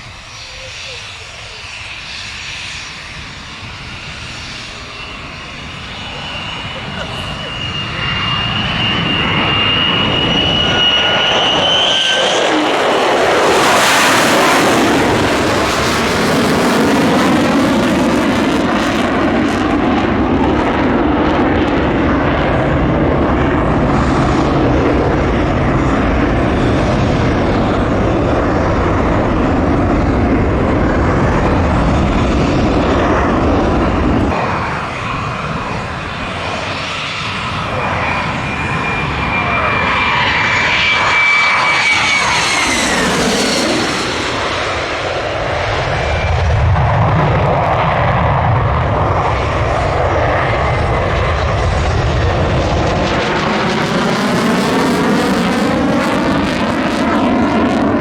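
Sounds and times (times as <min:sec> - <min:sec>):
jet flying past: 0:00.0 - 0:58.0.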